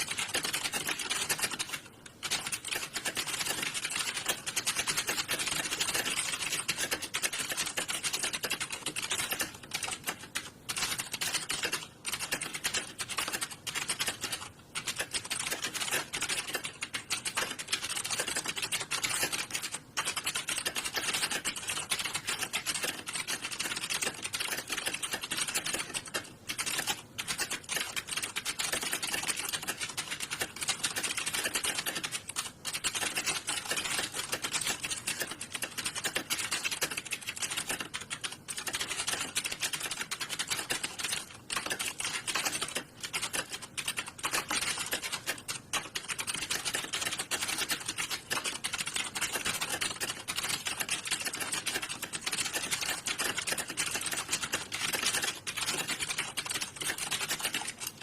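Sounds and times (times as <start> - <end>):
keyboards clattering: 0.0 - 58.0.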